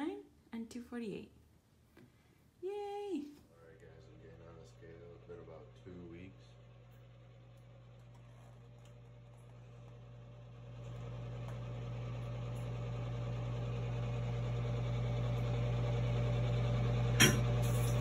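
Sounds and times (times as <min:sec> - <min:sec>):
low hum: 0:03.5 - 0:18.0.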